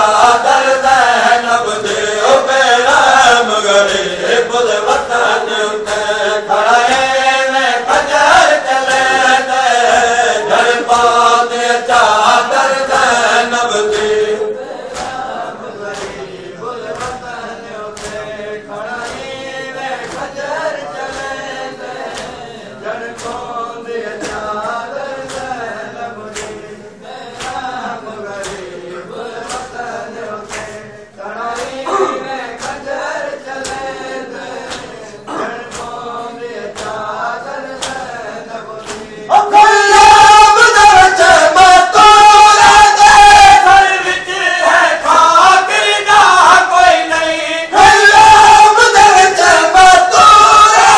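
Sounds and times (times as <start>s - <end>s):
men chanting a lament in unison: 0.0s - 50.9s
rhythmic chest-beating slaps: 0.0s - 50.9s.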